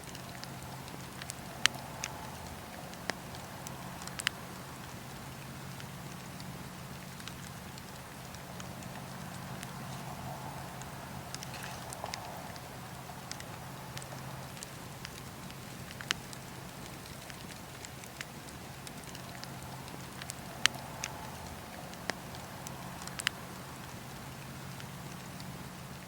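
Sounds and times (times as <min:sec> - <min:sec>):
campfire hissing: 0:00.0 - 0:26.0
fire crackles and pops: 0:00.0 - 0:26.0.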